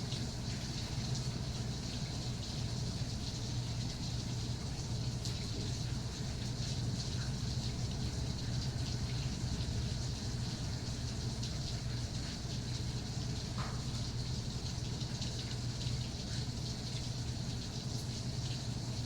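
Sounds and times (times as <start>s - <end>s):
steady rain ticking: 0.1s - 19.0s.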